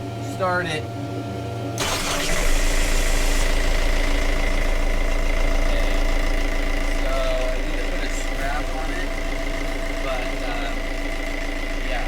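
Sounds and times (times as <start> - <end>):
diesel engine idling: 1.8 - 12.0.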